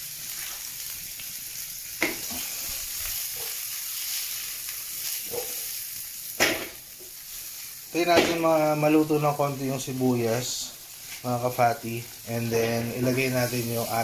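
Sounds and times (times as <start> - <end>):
vegetables sizzling in frying pan: 0.0 - 14.0.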